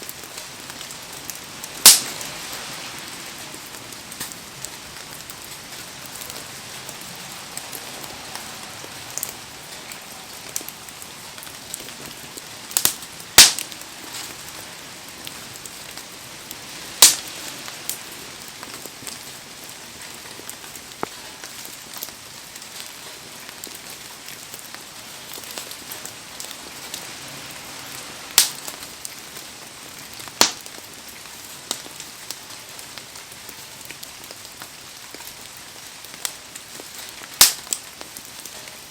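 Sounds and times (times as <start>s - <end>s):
burning wood popping: 0.0s - 2.4s, 3.0s - 27.1s, 28.2s - 38.8s
heavy rain falling: 0.0s - 38.9s.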